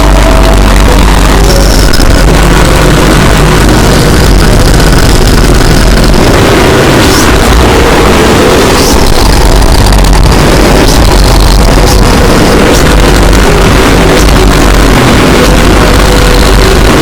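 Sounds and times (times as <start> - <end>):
distorted alarm noise: 0.0 - 17.0.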